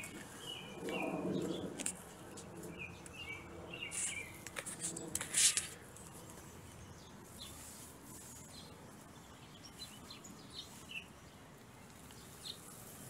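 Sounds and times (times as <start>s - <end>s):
faint outdoor hum: 0.0s - 13.0s.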